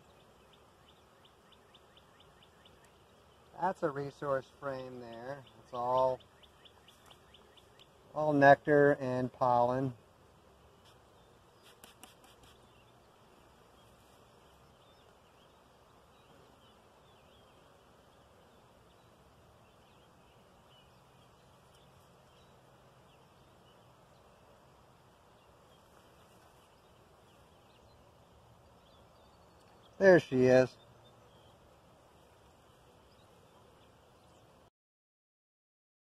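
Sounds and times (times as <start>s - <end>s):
honeybees humming: 0.0s - 34.7s.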